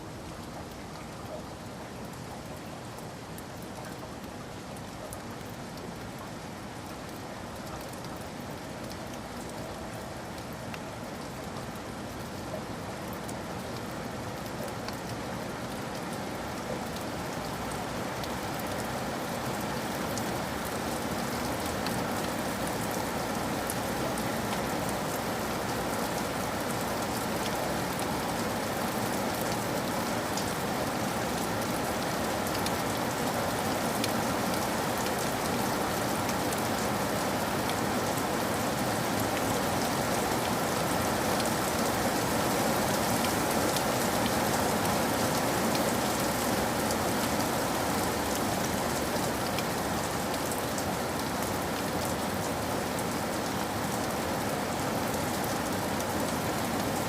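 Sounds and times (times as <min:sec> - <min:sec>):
raindrops ticking on surfaces: 0:00.0 - 0:57.0
steady rain hiss: 0:00.0 - 0:57.0.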